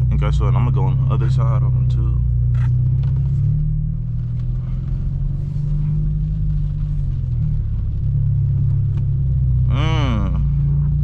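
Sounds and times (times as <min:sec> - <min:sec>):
car exhaust drone: 0:00.0 - 0:11.0.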